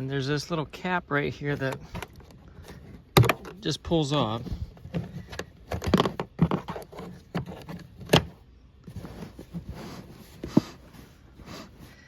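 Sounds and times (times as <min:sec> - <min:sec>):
light rustling: 0:01.3 - 0:12.0.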